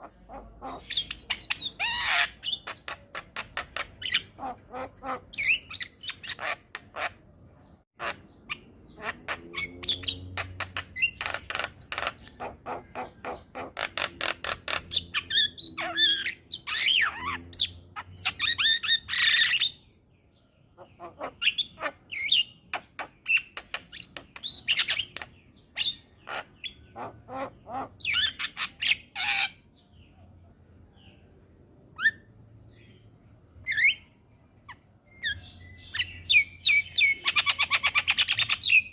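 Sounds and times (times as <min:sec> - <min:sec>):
bird singing squawks and whistles: 0:00.0 - 0:07.2, 0:08.0 - 0:20.0, 0:20.8 - 0:30.0, 0:32.0 - 0:33.0, 0:33.6 - 0:38.9.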